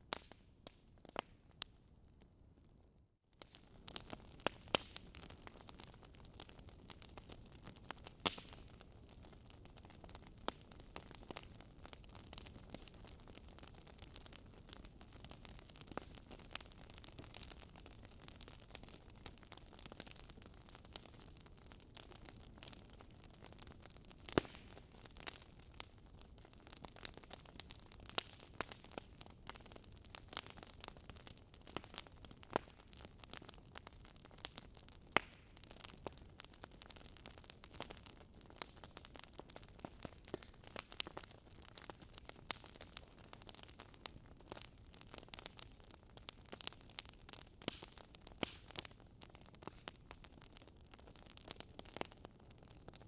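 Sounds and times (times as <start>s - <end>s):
wood fire crackling: 0.0s - 1.8s, 3.3s - 53.0s.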